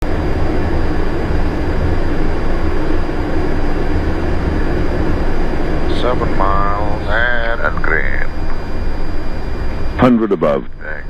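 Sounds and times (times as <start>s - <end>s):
cockpit airflow and engine noise: 0.0s - 11.0s.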